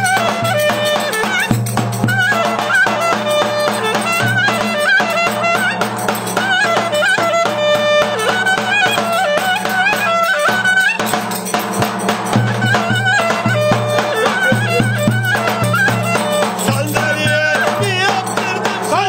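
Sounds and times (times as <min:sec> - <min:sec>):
clarinet folk dance melody: 0:00.0 - 0:19.0
steady drum beat: 0:00.0 - 0:19.0.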